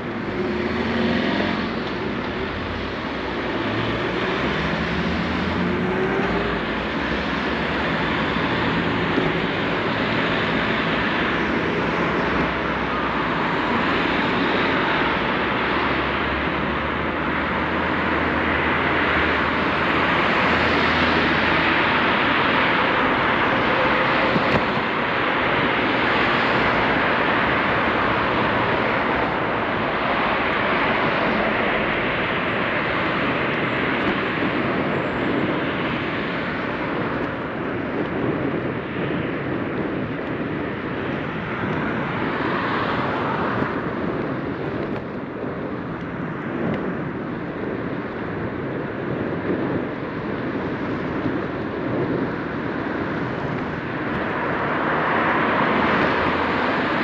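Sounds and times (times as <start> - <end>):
road traffic: 0.0 - 57.0
wind on microphone: 0.0 - 57.0.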